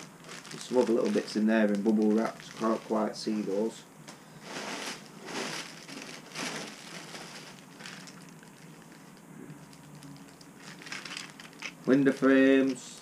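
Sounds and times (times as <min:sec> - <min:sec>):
plastic packaging rustling: 0:00.0 - 0:03.8, 0:04.4 - 0:12.8.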